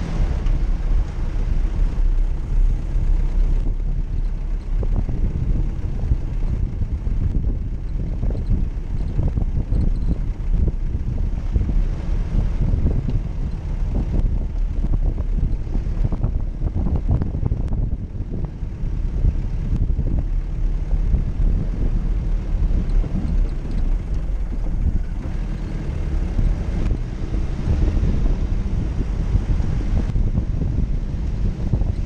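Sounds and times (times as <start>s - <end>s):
vehicle engine running: 0.0s - 32.0s
wind buffeting microphone: 0.0s - 32.0s.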